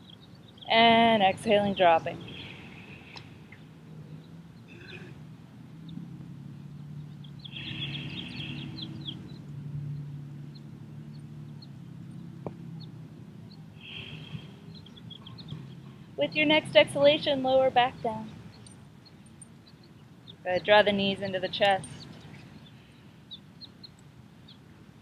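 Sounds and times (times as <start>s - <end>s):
low outdoor hum: 0.0s - 25.0s
small birds chirping: 0.0s - 25.0s.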